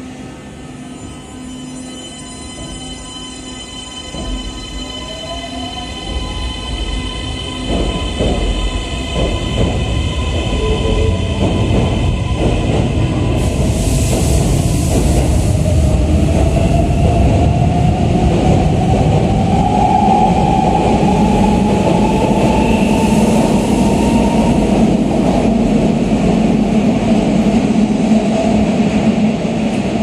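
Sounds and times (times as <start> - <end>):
train cars rumbling on rails: 6.0 - 30.0.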